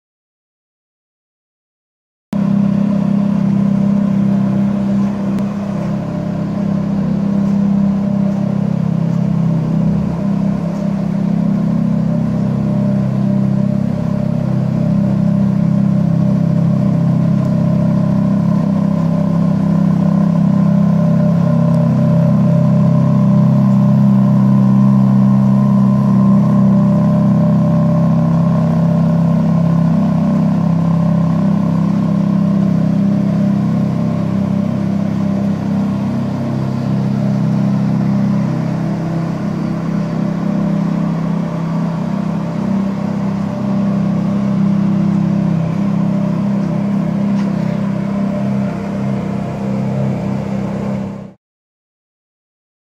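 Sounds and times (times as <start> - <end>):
car engine idling: 2.4 - 51.4.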